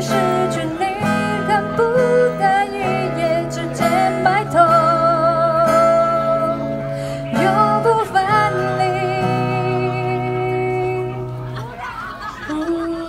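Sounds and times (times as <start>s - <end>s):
woman singing: 0.0s - 11.4s, 12.5s - 13.0s
acoustic guitar: 0.0s - 13.0s.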